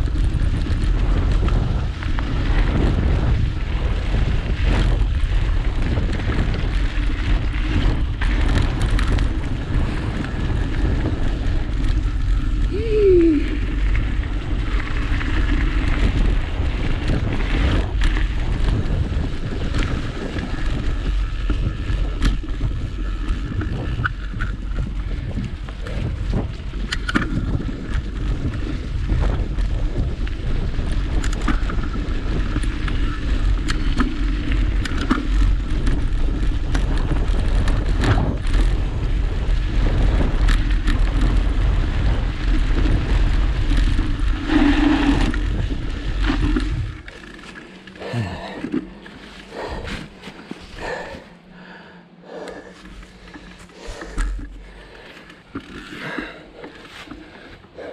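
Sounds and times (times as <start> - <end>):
bike clicks and rattles: 0.0 - 57.9
wind buffeting microphone: 0.0 - 57.9.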